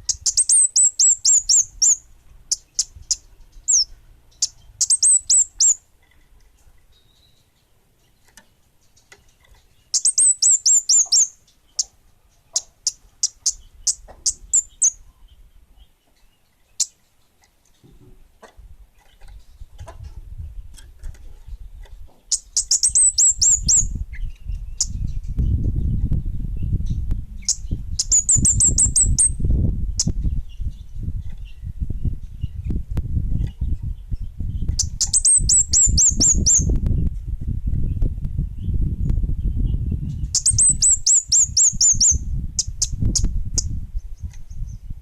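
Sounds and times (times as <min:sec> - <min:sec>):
songbird high chirps: 0:00.0 - 0:18.0, 0:19.0 - 0:45.0.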